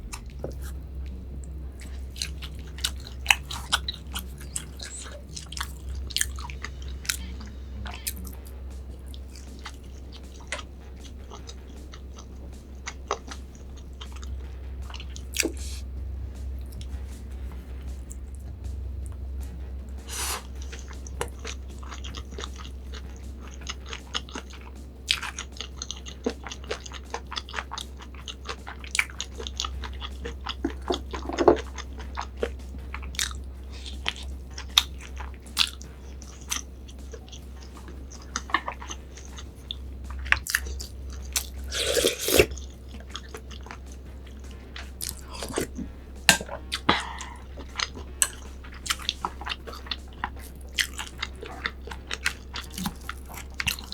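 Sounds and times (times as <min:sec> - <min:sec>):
chewing and crunching: 0:00.0 - 0:53.9
faint low hum: 0:00.0 - 0:53.9.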